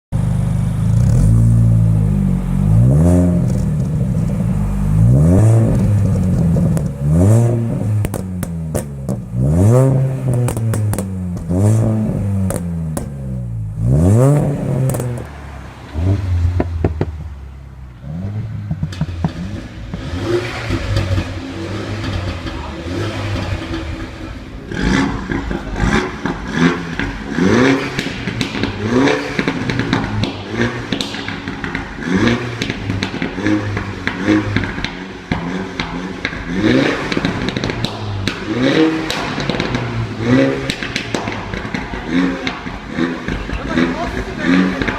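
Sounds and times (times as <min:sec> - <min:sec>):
car engine revving: 0:00.2 - 0:44.9.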